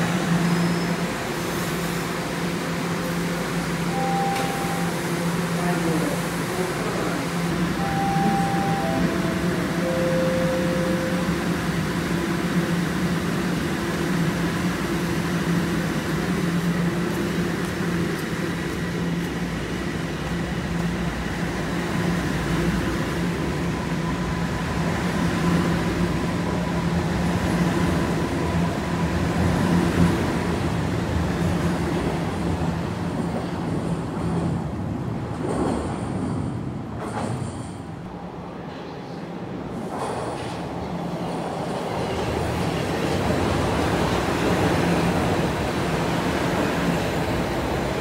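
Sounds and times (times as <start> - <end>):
subway train humming: 0.0 - 48.0
train running on rails: 0.0 - 48.0.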